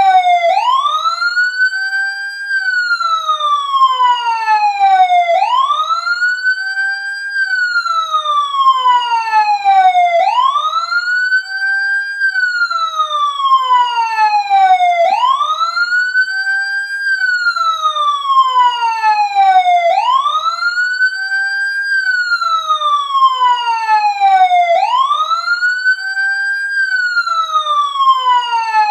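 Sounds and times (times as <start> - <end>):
wailing siren ringtone: 0.0 - 28.9.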